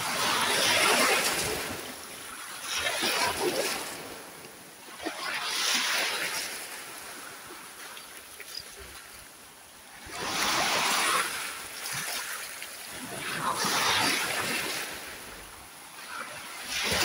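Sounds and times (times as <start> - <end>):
sea waves breaking on shore: 0.0 - 17.0.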